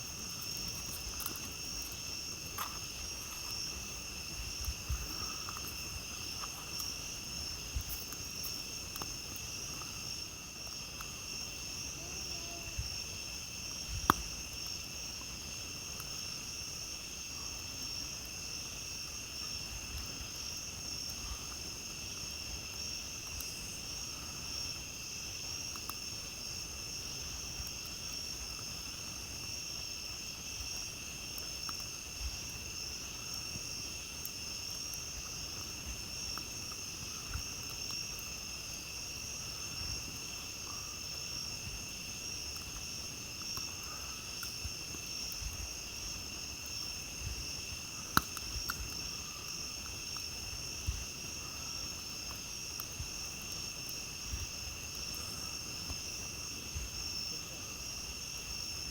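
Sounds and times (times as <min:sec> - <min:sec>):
campfire crackling and popping: 0:00.0 - 0:58.9
night insects trilling: 0:00.0 - 0:58.9.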